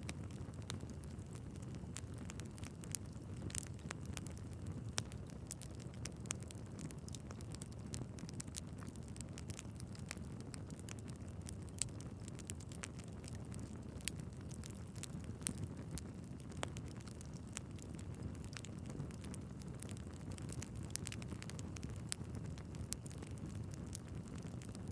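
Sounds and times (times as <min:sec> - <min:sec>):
wood fire burning in fireplace: 0:00.0 - 0:24.9.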